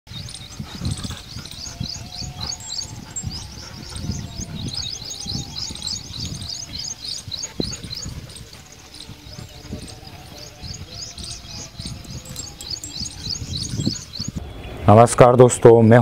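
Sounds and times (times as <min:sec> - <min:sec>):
small birds chirping: 0:00.1 - 0:15.1.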